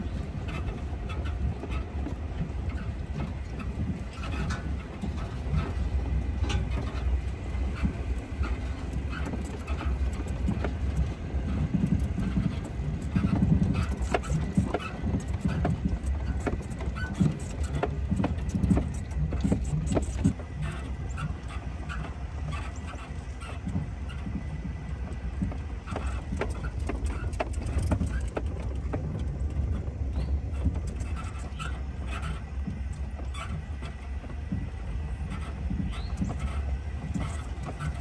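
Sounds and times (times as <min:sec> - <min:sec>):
knocks and rattles from bumps: 0:00.0 - 0:38.0
vehicle engine and road rumble: 0:00.0 - 0:38.0.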